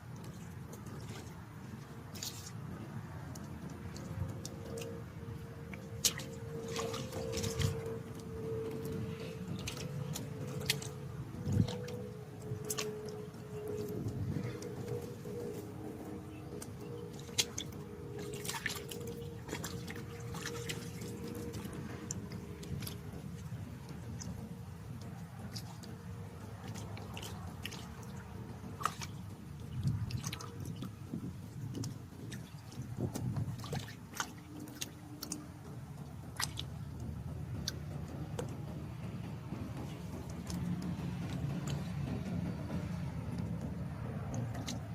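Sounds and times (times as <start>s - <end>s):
steady low hum: 0.0s - 44.9s
steady low rumble: 0.0s - 44.9s
water splashing and dripping: 0.0s - 44.9s.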